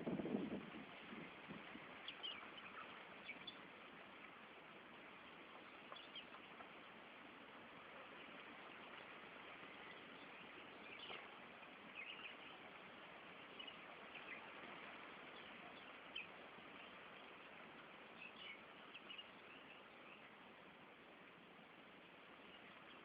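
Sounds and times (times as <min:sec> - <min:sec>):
steady hiss: 0:00.0 - 0:23.0
small birds chirping: 0:01.9 - 0:21.0, 0:21.7 - 0:23.0.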